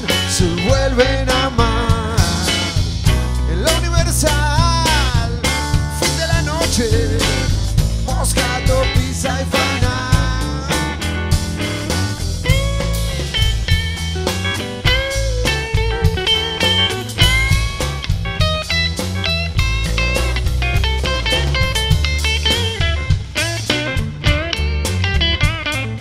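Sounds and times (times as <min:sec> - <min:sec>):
lead guitar with bent notes: 0:00.0 - 0:26.0
live band playing: 0:00.0 - 0:26.0.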